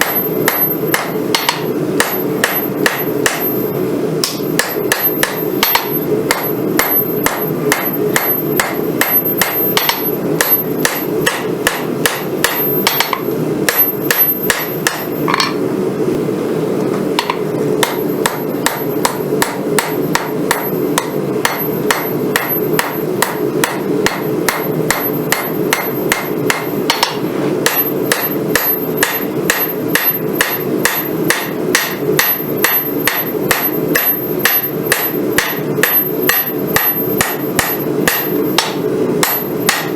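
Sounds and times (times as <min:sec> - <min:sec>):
hammer ringing on anvil: 0:00.0 - 0:15.6, 0:17.2 - 0:39.9.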